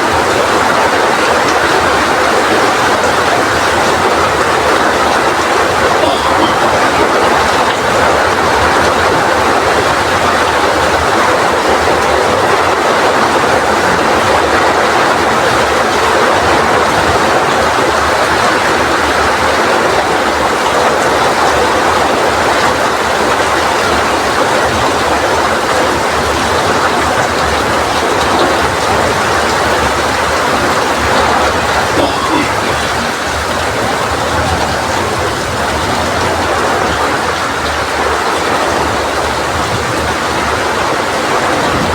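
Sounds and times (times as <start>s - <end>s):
heavy rain in strong wind: 0.0s - 41.9s.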